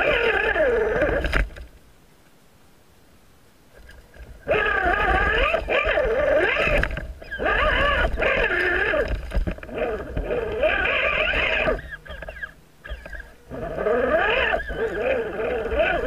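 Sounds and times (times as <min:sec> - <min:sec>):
electric motor and gears whining: 0:00.0 - 0:01.7, 0:04.1 - 0:16.0.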